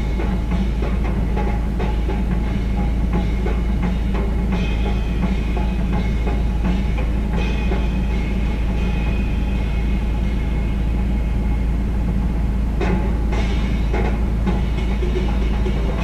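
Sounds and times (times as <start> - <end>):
car cabin rumble: 0.0 - 16.0
music playing: 0.0 - 16.0.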